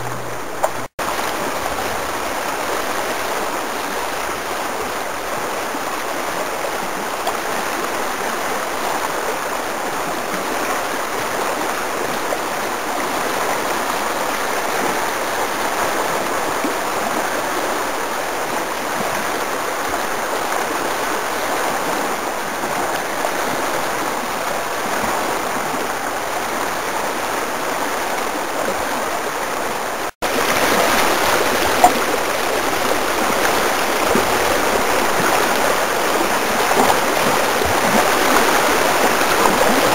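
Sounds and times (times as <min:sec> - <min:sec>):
water rushing over rapids: 0:00.0 - 0:39.9.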